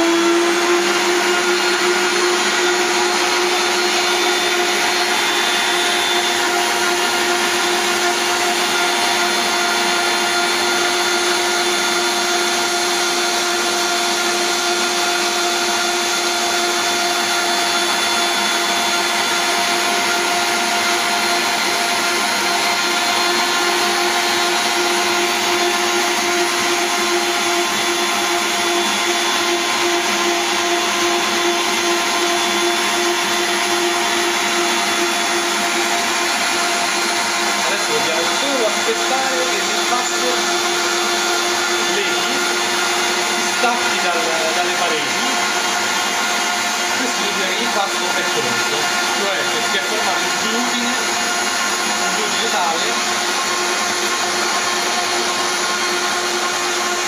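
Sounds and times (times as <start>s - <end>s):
stand mixer motor whine: 0.0s - 57.0s.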